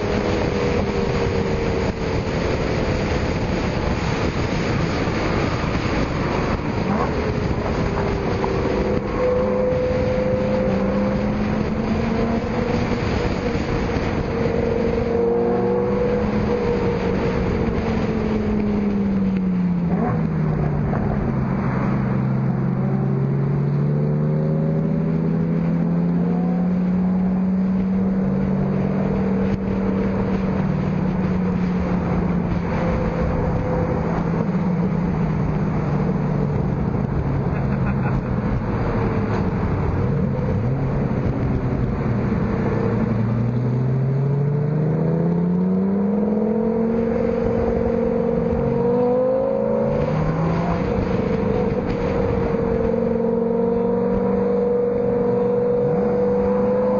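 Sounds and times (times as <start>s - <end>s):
car engine running: 0.0s - 56.9s
road and wind noise: 0.0s - 56.9s.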